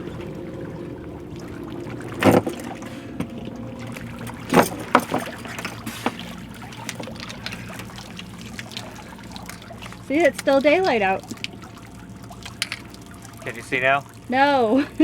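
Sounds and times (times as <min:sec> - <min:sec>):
steady low hum: 0:00.0 - 0:15.0
water splashing against boat: 0:00.0 - 0:15.0.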